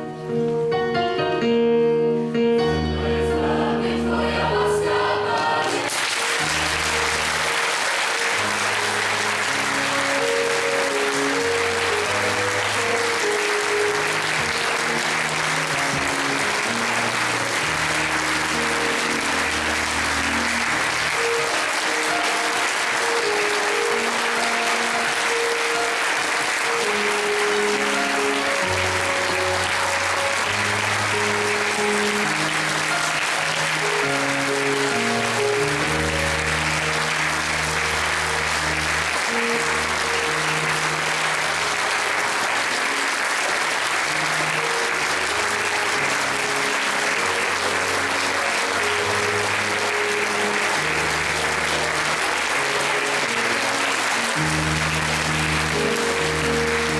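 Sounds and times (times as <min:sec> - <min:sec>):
music: 0:00.0 - 0:56.9
audience applause: 0:03.9 - 0:56.9.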